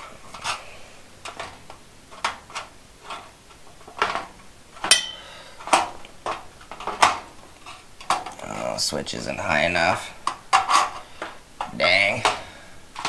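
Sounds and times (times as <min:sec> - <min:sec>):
sheet metal cover clanking: 0:00.0 - 0:08.6, 0:09.9 - 0:13.0.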